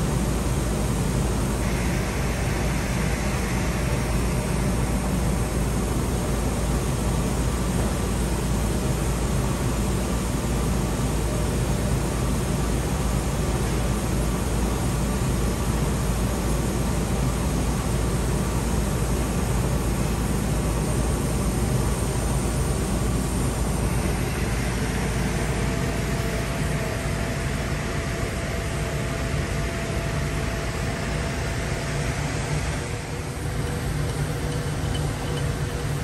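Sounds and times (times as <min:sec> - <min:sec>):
factory machinery drone: 0:00.0 - 0:36.0
faint steady whine: 0:00.0 - 0:36.0.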